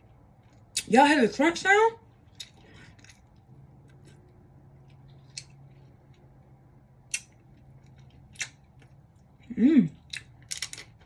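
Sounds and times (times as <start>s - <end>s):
chewing with crunching: 2.1s - 11.0s.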